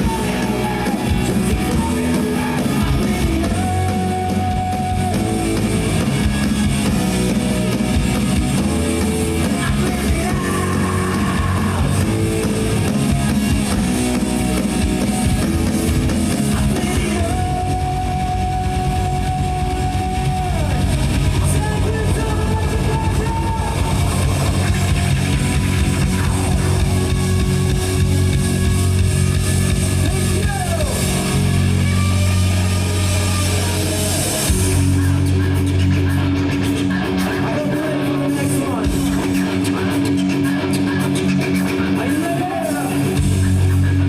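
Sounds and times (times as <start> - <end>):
electric guitar bending notes: 0.0 - 42.0
live rock band playing: 0.0 - 44.0.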